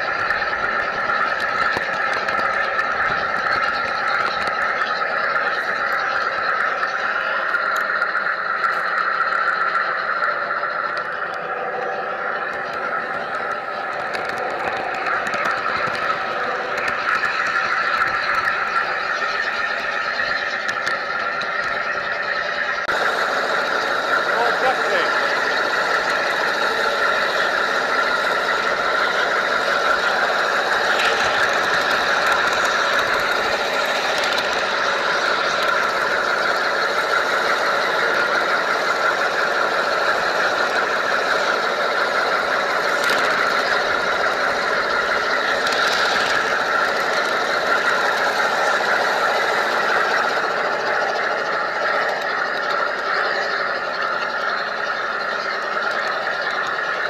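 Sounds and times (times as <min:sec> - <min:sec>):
model train wheels whirring and rattling: 0:00.0 - 0:57.0.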